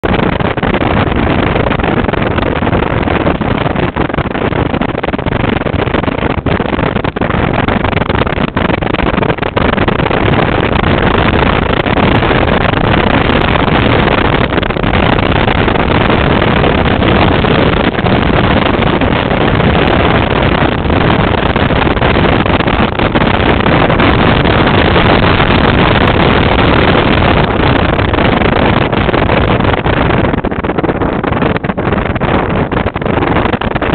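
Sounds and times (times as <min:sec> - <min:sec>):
wind rush: 0:00.0 - 0:33.9.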